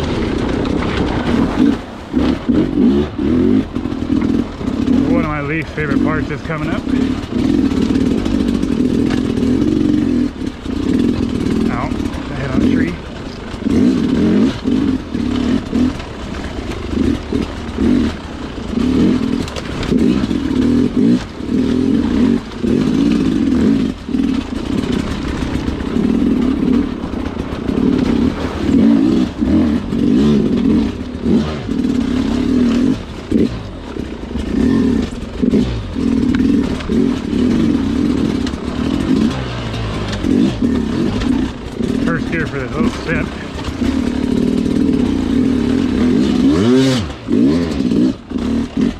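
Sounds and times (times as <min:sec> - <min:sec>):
dirt bike engine revving: 0:00.0 - 0:48.9
bike knocking over terrain: 0:03.6 - 0:48.9.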